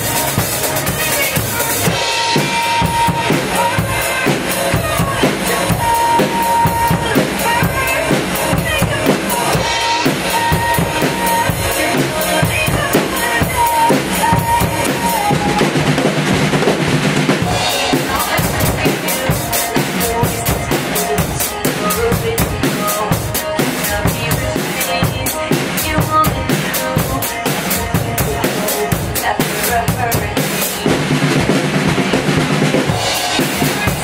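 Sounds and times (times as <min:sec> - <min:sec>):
drum kit playing: 0:00.0 - 0:34.0
pop backing track: 0:00.0 - 0:34.0.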